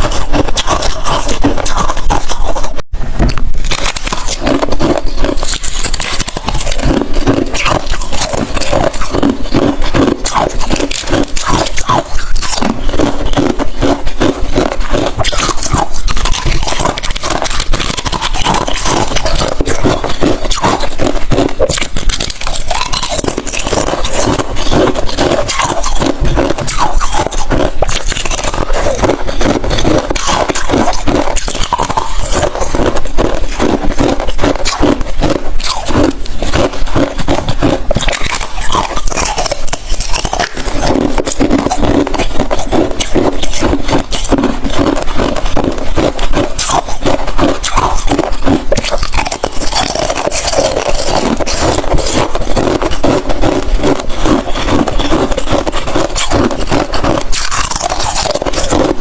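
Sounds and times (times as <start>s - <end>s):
chewing ice crunching: 0.0s - 59.0s.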